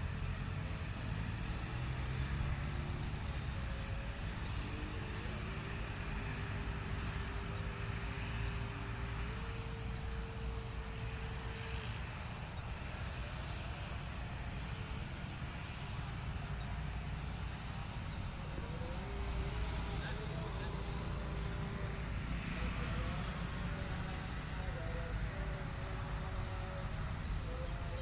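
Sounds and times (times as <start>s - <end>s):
low engine rumble: 0.0s - 28.0s.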